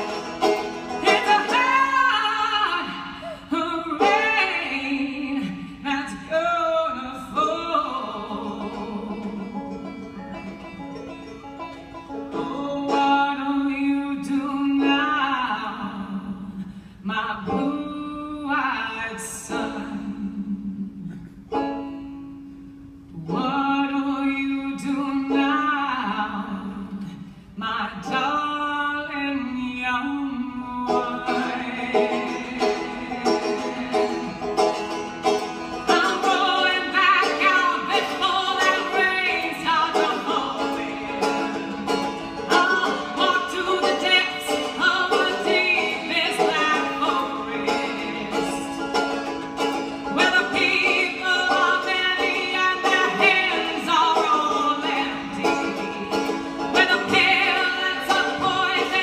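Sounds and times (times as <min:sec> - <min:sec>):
banjo picking: 0:00.0 - 0:59.0
woman singing: 0:01.0 - 0:09.6, 0:12.4 - 0:21.2, 0:23.2 - 0:34.8, 0:35.8 - 0:48.9, 0:50.1 - 0:59.0.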